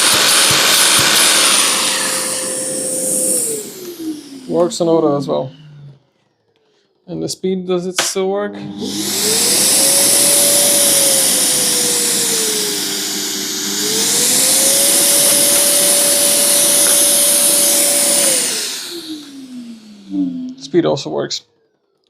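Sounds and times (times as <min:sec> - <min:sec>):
dust extractor motor whine: 0:00.0 - 0:05.6, 0:08.5 - 0:20.6.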